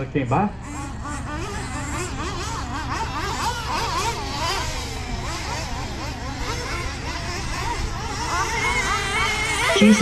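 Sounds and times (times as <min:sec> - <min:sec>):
small engines whining: 0:00.0 - 0:10.0.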